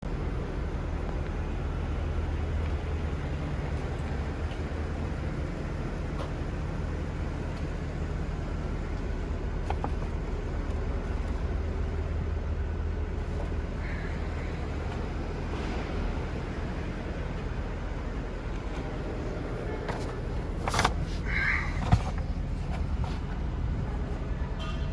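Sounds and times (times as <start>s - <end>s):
car engine idling: 0.1s - 24.9s.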